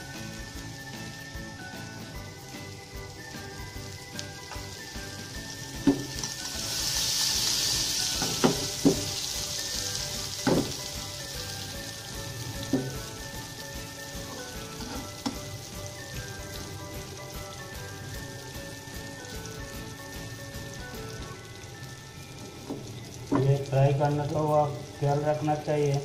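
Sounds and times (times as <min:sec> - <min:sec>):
background music: 0:00.0 - 0:26.0
oil sizzling in a pan: 0:00.0 - 0:26.0.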